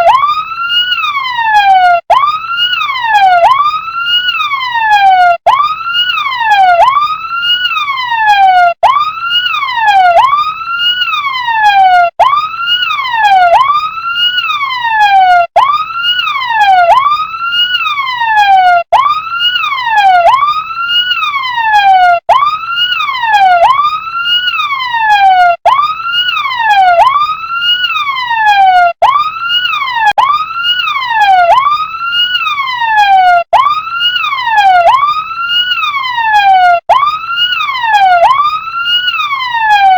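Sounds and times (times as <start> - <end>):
toy electronic siren sweeping: 0.0 - 39.9.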